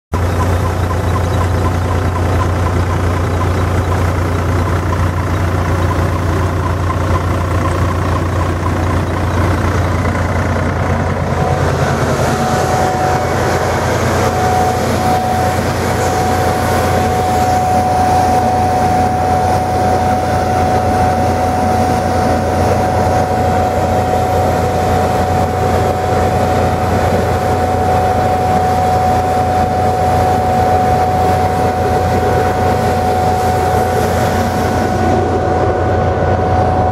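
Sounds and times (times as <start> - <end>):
tractor engine under load: 0.1 - 36.9
steady high whine: 0.2 - 36.9.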